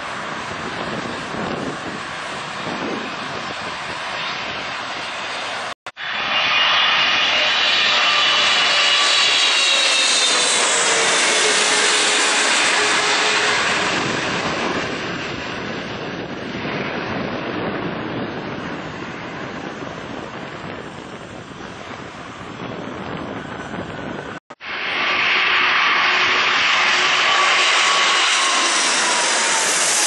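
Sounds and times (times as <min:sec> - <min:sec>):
jet plane passing low overhead: 0:00.0 - 0:30.0.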